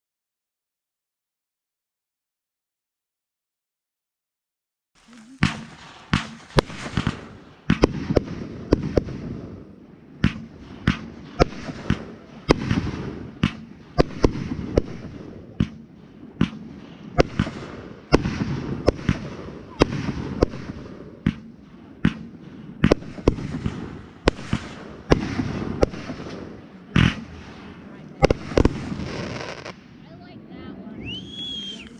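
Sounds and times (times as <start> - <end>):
firework bangs: 5.0 - 31.9.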